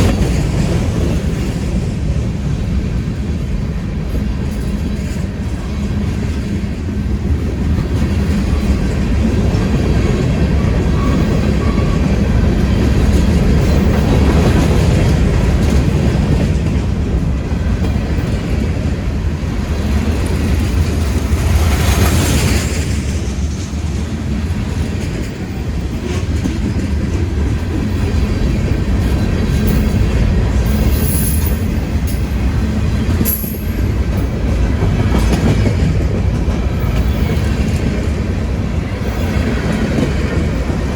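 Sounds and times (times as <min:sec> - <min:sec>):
clickety-clack over rail joints: 0:00.0 - 0:40.9
freight train wheels rumbling: 0:00.0 - 0:40.9.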